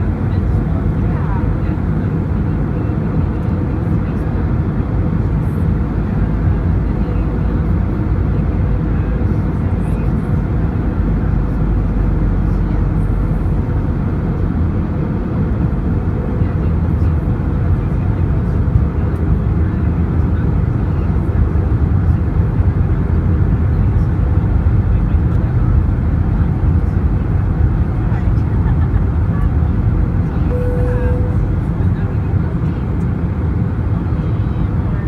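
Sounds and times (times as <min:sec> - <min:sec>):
airliner engines and airflow in cabin: 0:00.0 - 0:35.0.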